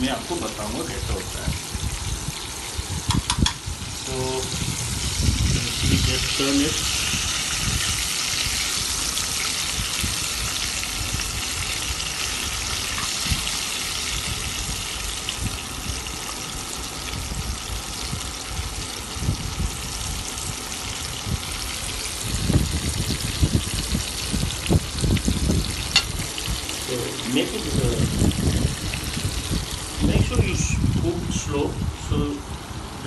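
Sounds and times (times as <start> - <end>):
chicken frying in hot oil: 0.0 - 33.0.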